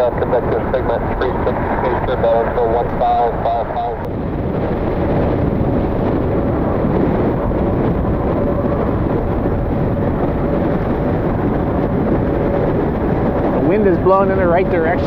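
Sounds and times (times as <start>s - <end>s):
faint steady whine: 0.0s - 15.0s
wind buffeting microphone: 0.0s - 15.0s.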